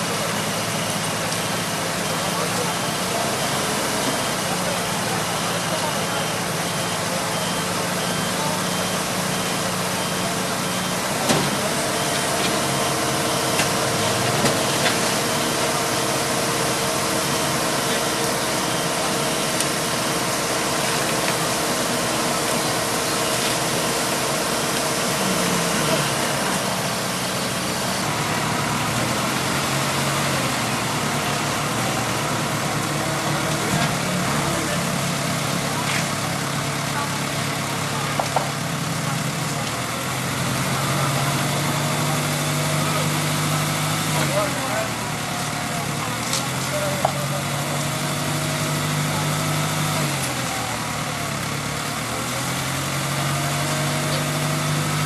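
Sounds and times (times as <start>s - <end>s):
indistinct voices: 0.0s - 55.0s
traffic noise: 0.0s - 55.0s
vehicle engines idling: 0.0s - 55.0s.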